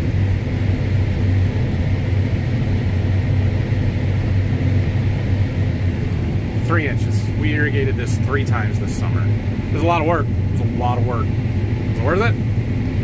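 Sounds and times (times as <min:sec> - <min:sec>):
combine harvester drone: 0:00.0 - 0:13.0
faint high whine: 0:00.0 - 0:13.0.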